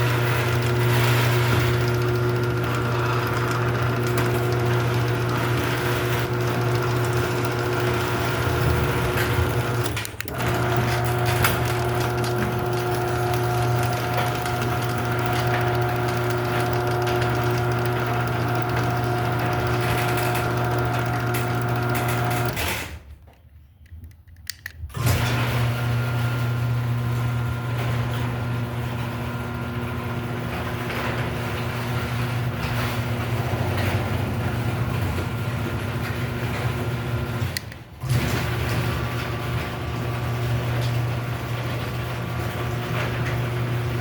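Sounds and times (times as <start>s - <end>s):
garage door opener knock: 0.0s - 22.8s, 25.2s - 44.0s
garage door opener motor hum: 0.0s - 23.2s, 24.9s - 44.0s.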